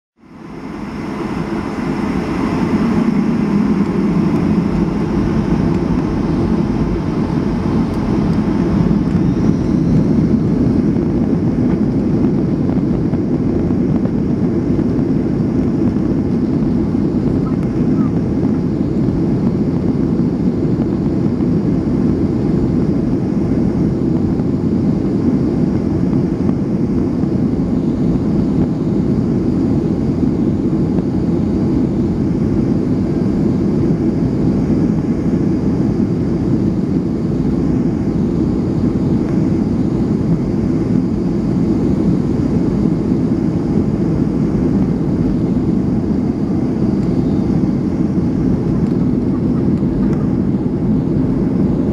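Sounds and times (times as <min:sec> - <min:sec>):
jet engines deep rumble: 0:00.2 - 0:51.9.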